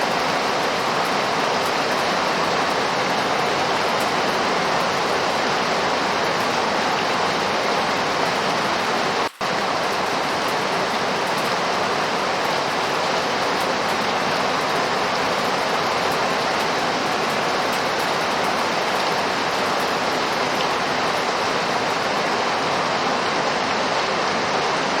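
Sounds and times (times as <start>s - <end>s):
dense rainfall hiss: 0.0s - 25.0s.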